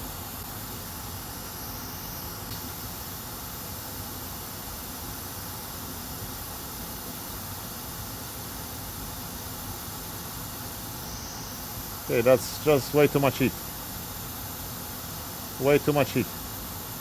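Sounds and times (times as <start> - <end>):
hot air blower hissing: 0.0 - 17.0.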